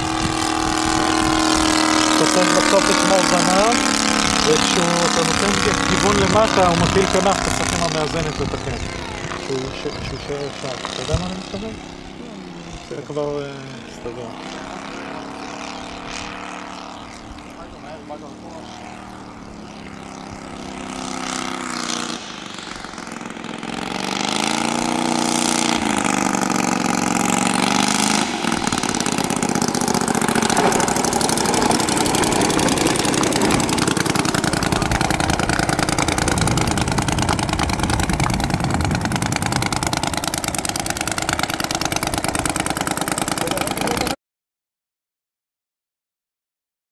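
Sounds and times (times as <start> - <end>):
model airplane engine: 0.0 - 44.2.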